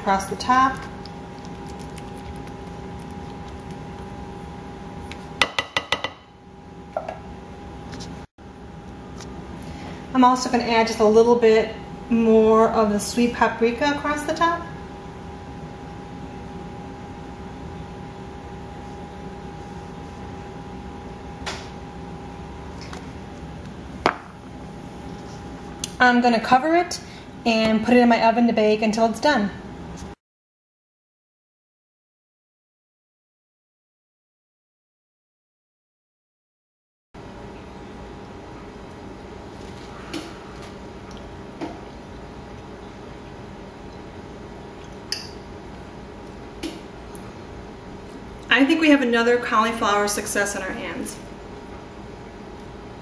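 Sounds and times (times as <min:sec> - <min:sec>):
room hum with faint tone: 0:00.0 - 0:30.2, 0:37.2 - 0:53.0.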